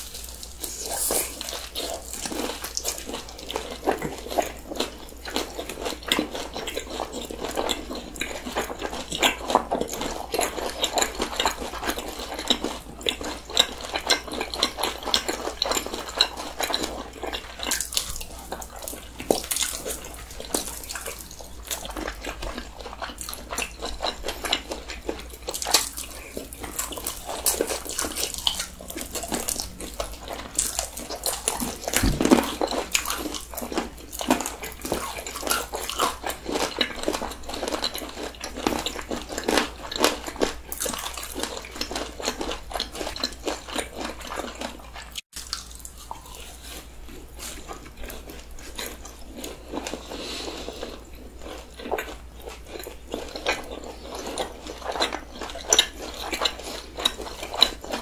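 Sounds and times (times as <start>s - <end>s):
people crunching fried chicken: 0.0s - 58.0s.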